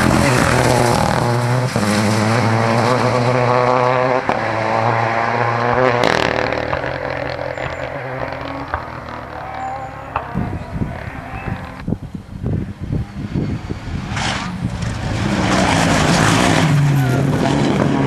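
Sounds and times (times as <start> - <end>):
rally car engine at high revs: 0.0 - 11.8, 13.1 - 18.0.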